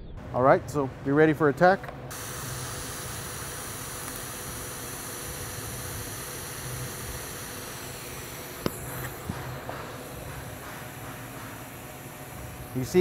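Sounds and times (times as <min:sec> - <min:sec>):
welding arc hissing: 0:02.1 - 0:13.0.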